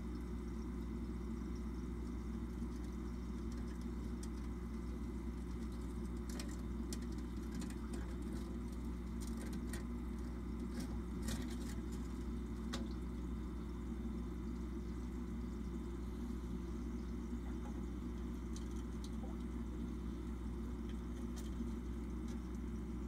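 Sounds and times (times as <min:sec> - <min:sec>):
aquarium equipment humming: 0:00.0 - 0:23.0.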